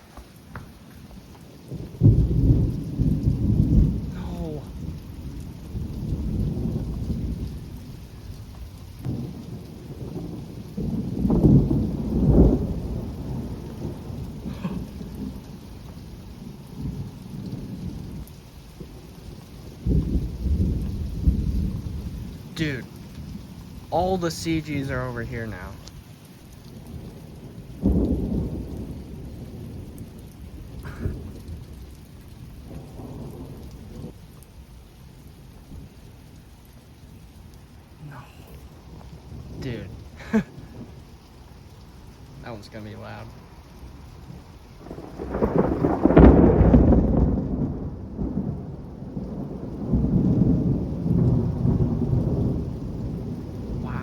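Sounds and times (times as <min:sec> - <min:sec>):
steady rain: 0:00.0 - 0:54.0
thunder clap and rumble: 0:00.4 - 0:54.0.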